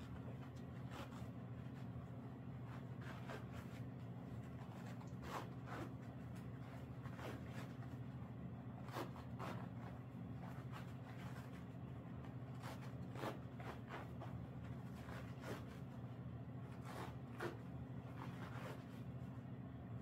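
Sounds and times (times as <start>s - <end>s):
elastic bandage rustling: 0.0s - 8.1s, 8.8s - 19.4s
steady low hum: 0.0s - 20.0s.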